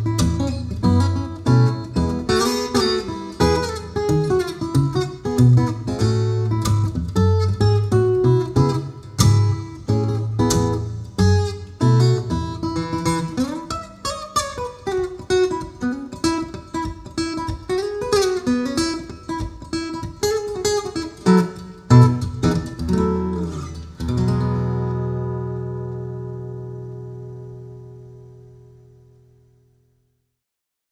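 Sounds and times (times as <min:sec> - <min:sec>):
acoustic guitar plucked melody: 0:00.0 - 0:29.8.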